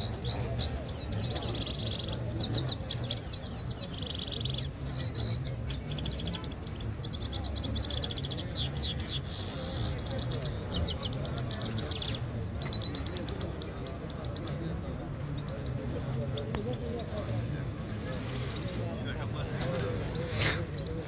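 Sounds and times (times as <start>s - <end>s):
bird twittering song: 0.0s - 21.0s.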